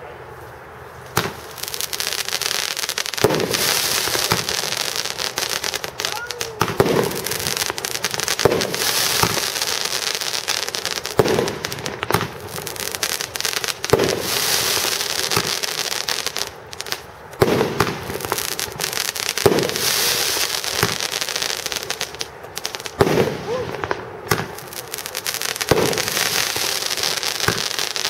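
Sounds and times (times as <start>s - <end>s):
firework crackling hiss: 1.0s - 28.0s
firework bangs: 1.1s - 28.0s.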